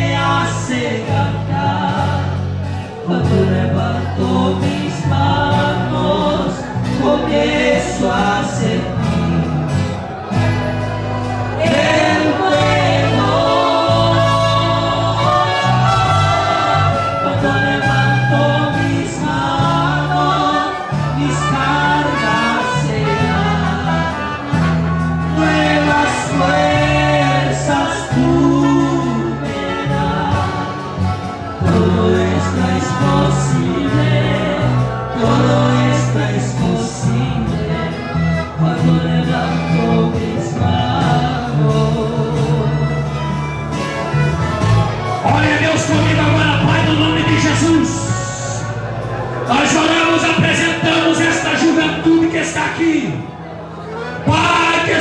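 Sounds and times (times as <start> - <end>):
instrumental accompaniment: 0.0 - 51.7, 53.2 - 55.0
voices singing gospel song: 0.0 - 55.0.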